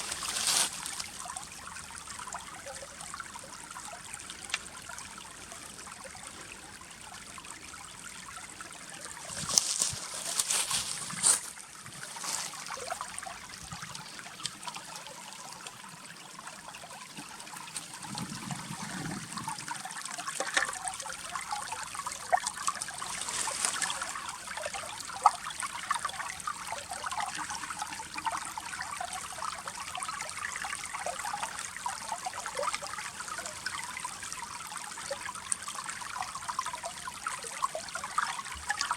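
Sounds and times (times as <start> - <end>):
river water trickling through ice: 0.0 - 38.9
water rushing: 0.0 - 38.9.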